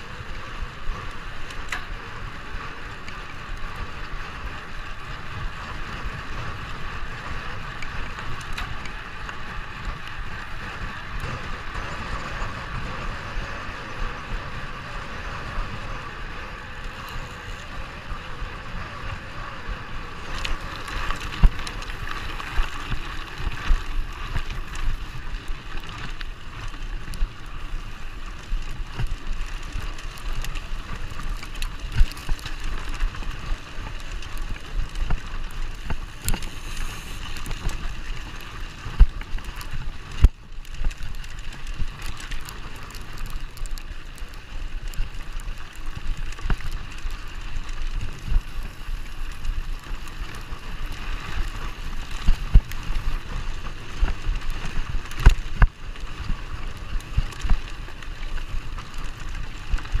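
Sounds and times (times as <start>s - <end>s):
tyre and wind noise: 0.0s - 60.0s.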